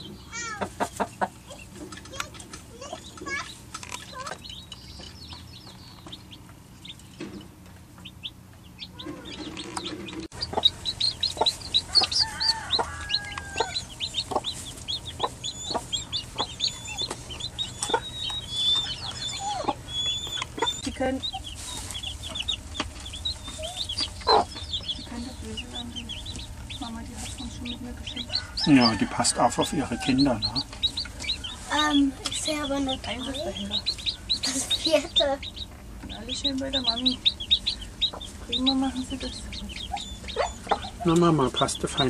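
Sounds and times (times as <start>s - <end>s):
chicks peeping: 0.0s - 42.0s
hen clucking: 0.0s - 42.0s.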